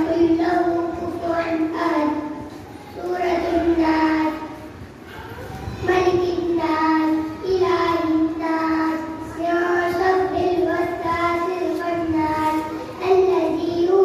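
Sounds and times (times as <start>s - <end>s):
boy chanting: 0.0s - 14.0s.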